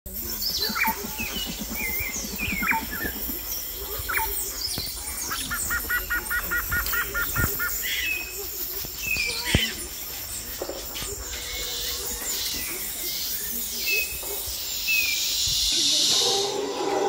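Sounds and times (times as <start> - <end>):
run of evenly spaced bird notes: 0.1 - 16.2.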